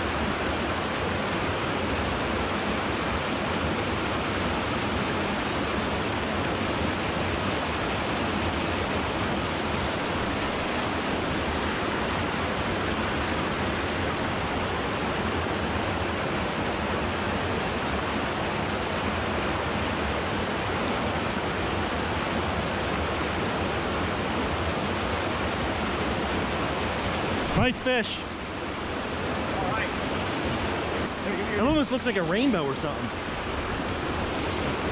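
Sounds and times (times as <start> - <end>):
mountain stream flowing: 0.0 - 34.9.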